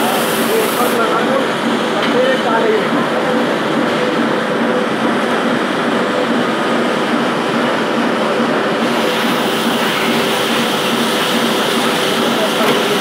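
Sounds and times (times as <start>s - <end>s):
floor scrubber running: 0.0s - 13.0s.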